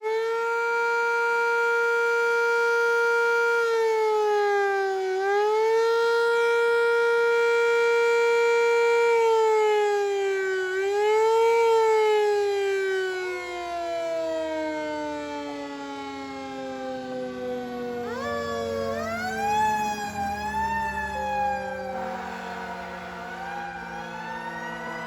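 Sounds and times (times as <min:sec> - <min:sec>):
fire siren wailing: 0:00.0 - 0:25.0.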